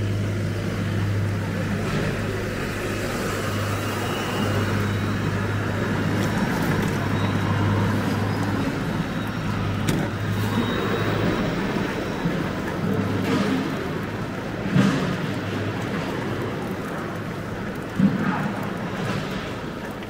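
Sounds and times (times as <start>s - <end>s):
low engine hum: 0.0s - 20.0s
vehicles passing: 0.0s - 20.0s.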